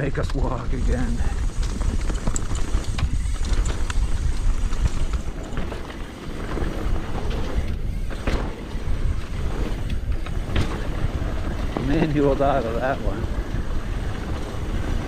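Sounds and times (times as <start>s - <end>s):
bike rattling over rough ground: 0.0s - 15.0s
wind buffeting microphone: 0.0s - 15.0s.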